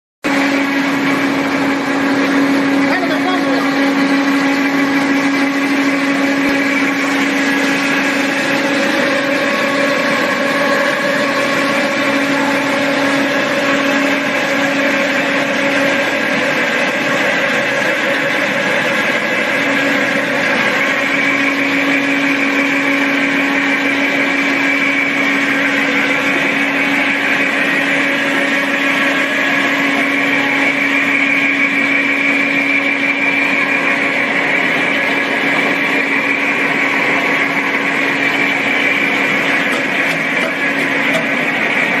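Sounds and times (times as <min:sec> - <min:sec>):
powder mixer motor hum and whine: 0:00.2 - 0:42.0.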